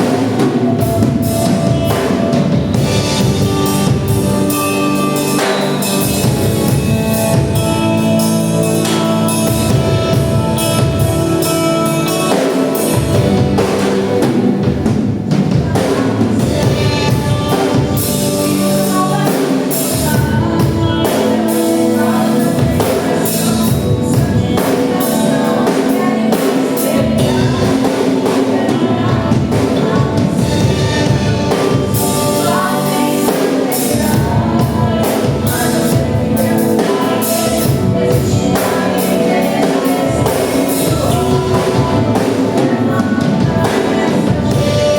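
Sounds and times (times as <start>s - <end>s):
drum kit beat: 0.0s - 44.9s
gospel worship band music: 0.0s - 44.9s
people singing: 0.0s - 44.9s.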